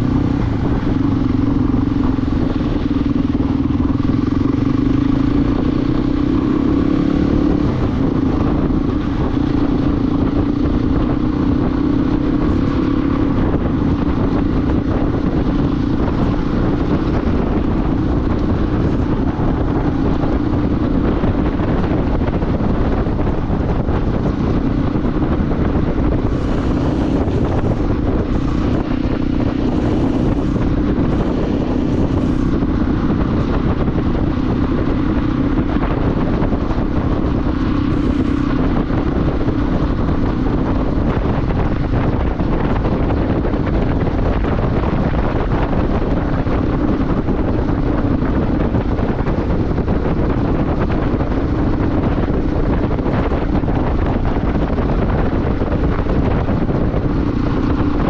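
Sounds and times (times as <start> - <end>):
loud low rumbling noise: 0.0 - 58.0
motorcycle engine cruising: 0.0 - 58.0.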